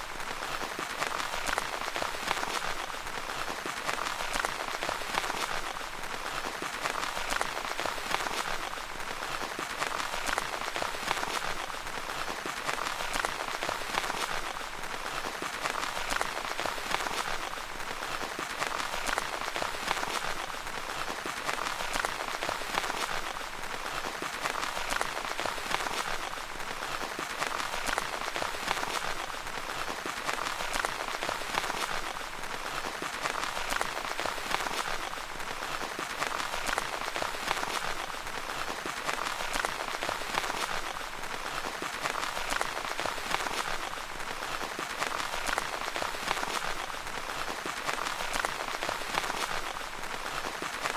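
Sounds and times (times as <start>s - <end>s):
rain pattering on a tent: 0.0s - 50.9s.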